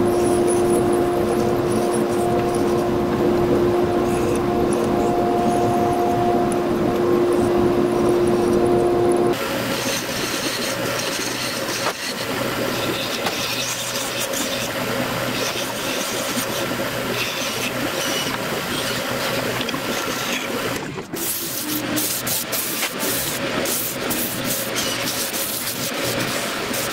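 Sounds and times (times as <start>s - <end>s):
chisel scraping spinning wood: 0.0s - 26.9s
lathe motor hum: 0.0s - 26.9s
sandpaper rubbing spinning wood: 0.0s - 26.9s.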